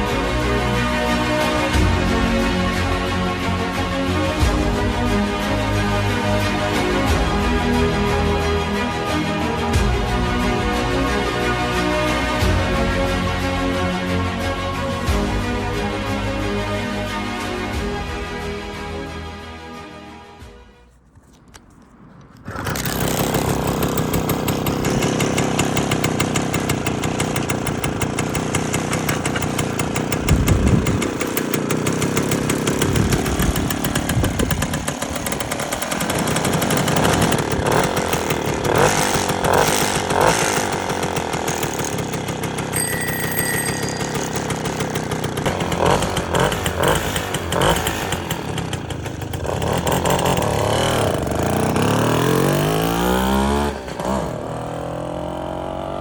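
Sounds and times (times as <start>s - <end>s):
moped two-stroke engine revving: 0.0s - 14.0s, 22.2s - 56.0s.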